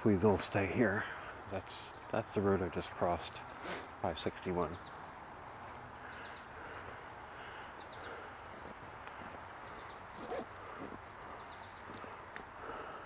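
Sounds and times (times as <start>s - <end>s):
faint even hiss: 0.0s - 13.0s
insects droning: 0.0s - 13.0s.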